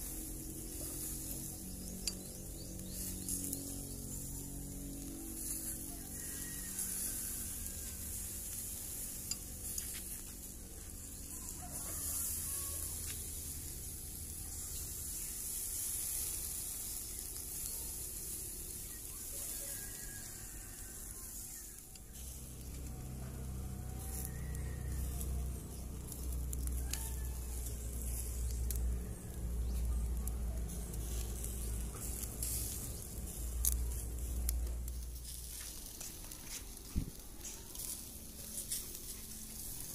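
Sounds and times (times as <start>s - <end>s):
chicken sizzling on grill: 0.0s - 39.9s
faint crackles: 0.0s - 39.9s.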